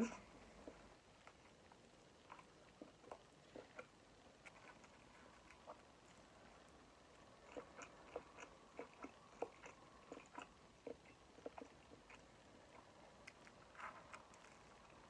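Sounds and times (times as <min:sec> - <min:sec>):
person chewing food: 0:00.6 - 0:15.0.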